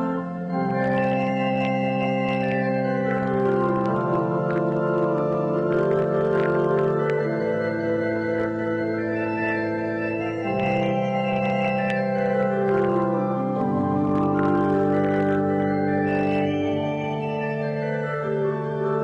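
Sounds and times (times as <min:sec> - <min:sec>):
pipe organ chords: 0:00.0 - 0:19.0.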